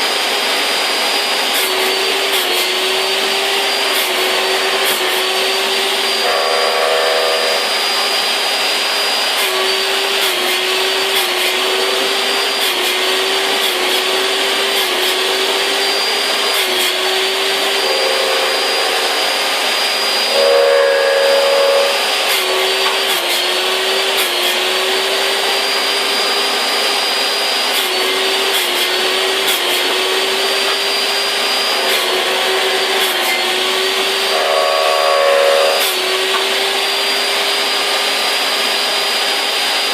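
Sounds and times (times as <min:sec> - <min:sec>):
wood-cutting machine motor whining: 0:00.0 - 0:39.9.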